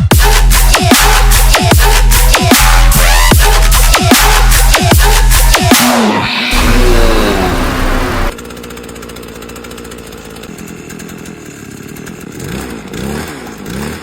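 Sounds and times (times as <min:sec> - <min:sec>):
two-stroke engine idling and revving: 0:00.0 - 0:14.0.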